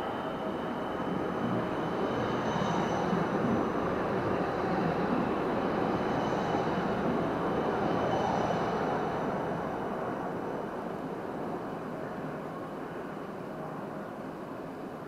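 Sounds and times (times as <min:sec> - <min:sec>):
tram rumbling past on rails: 0:00.0 - 0:13.1
faint high whine: 0:00.0 - 0:15.0.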